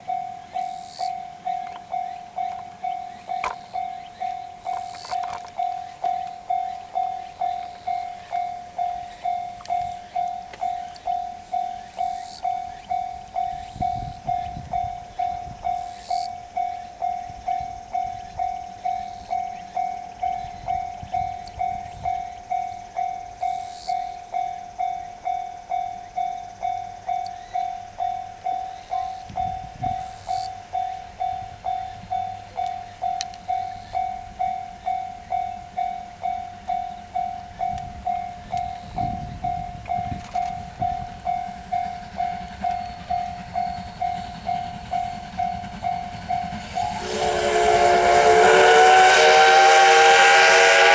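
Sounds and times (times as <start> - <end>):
level-crossing alarm ringing: 0.0 - 50.9.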